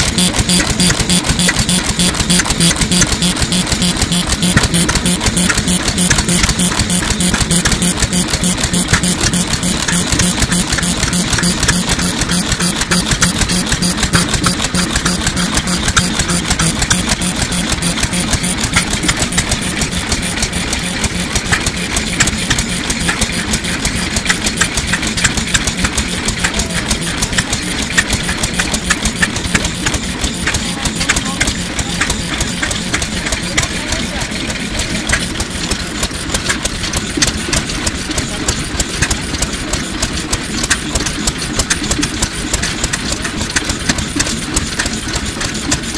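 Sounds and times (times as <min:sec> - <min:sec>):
stationary engine clattering: 0:00.0 - 0:45.9.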